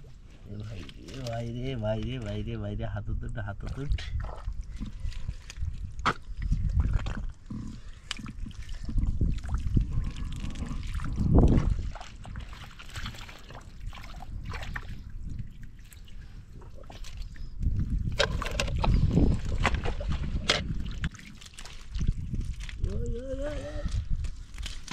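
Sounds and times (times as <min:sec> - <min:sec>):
hands squelching in wet mud: 0:03.6 - 0:24.9.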